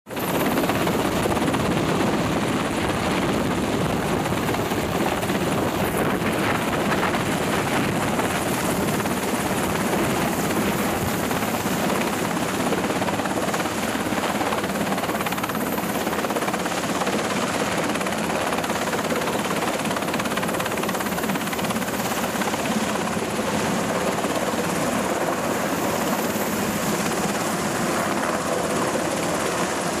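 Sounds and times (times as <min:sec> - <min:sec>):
helicopter engines and rotor: 0:00.1 - 0:30.0.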